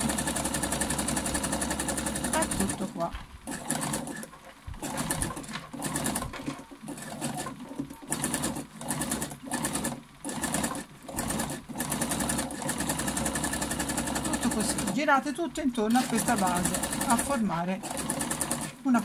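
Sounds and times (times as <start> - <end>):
sewing machine stitching: 0.0 - 15.2, 15.8 - 19.0.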